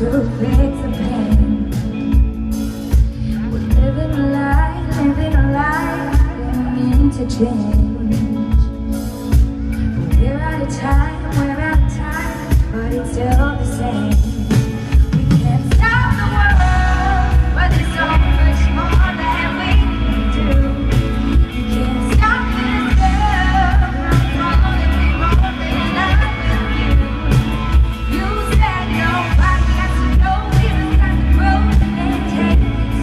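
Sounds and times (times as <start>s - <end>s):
live pop band: 0.0s - 33.0s
woman singing: 0.0s - 33.0s.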